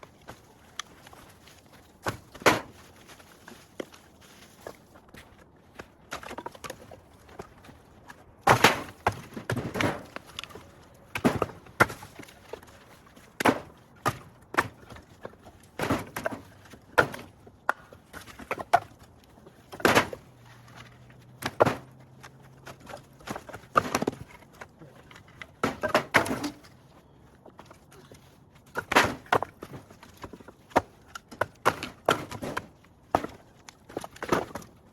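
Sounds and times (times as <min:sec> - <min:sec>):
firewood knocking and clattering: 0:00.0 - 0:26.8, 0:27.4 - 0:34.8.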